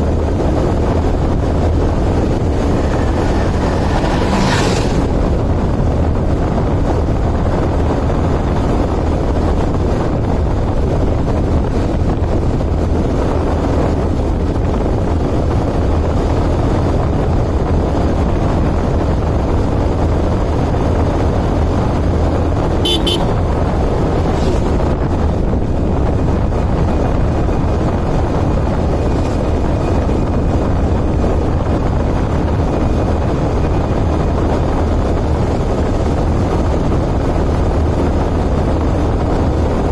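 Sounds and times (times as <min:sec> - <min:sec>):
vehicle road noise: 0:00.0 - 0:39.9.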